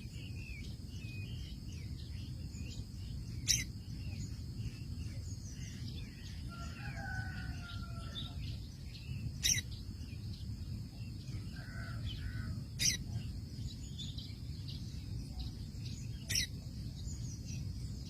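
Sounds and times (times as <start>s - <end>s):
low background rumble: 0.0s - 18.0s
small birds chirping: 0.0s - 18.0s
steady high-pitched hum: 0.0s - 18.0s.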